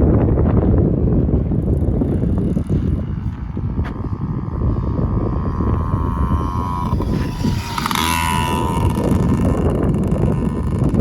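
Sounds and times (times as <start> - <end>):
small dirt bike engine running: 0.0 - 11.0
wind rumble on microphone: 0.0 - 11.0.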